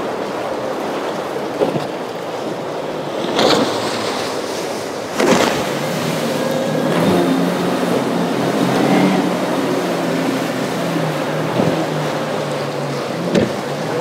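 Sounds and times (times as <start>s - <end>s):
motorboat engine running: 0.0s - 14.0s
water splashing: 0.0s - 14.0s.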